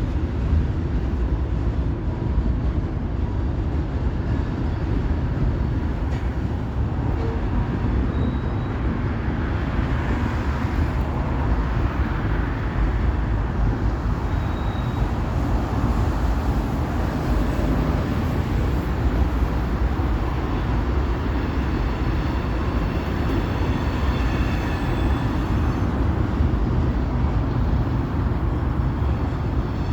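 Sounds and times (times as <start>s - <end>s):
train rumbling: 0.0s - 29.9s.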